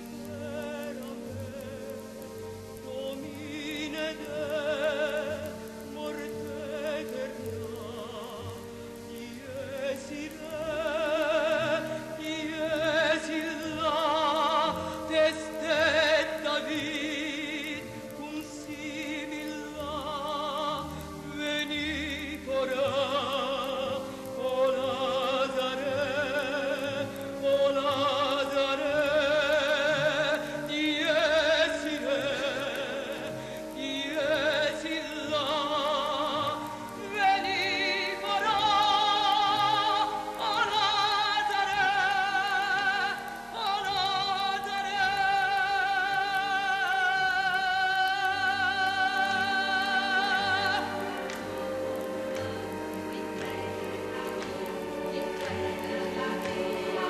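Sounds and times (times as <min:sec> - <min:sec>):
operatic solo singing: 0:00.0 - 0:57.0
sustained accompaniment: 0:00.0 - 0:57.0.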